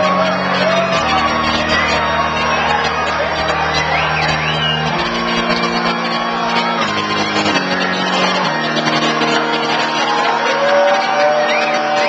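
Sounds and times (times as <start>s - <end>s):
crowd noise: 0.0s - 12.0s
crowd whooping: 0.0s - 12.0s
electronic dance music: 0.0s - 12.0s.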